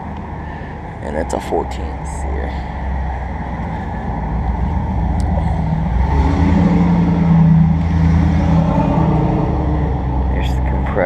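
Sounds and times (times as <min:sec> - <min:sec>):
pitched hum: 0:00.0 - 0:11.0.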